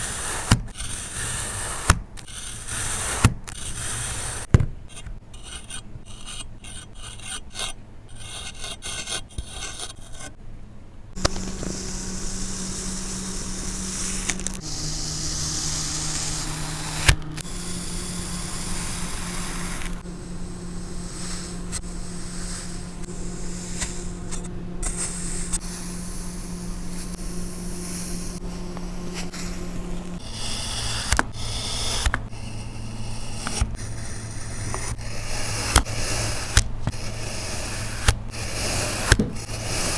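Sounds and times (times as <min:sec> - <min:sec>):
sand being cut and scraped: 0:00.0 - 0:10.4, 0:11.2 - 0:39.9.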